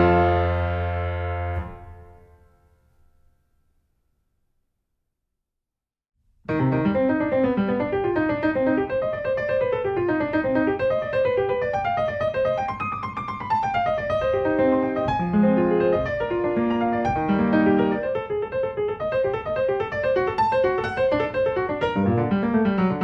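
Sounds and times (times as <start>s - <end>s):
piano music with quick runs: 0.0s - 2.5s, 6.5s - 23.0s.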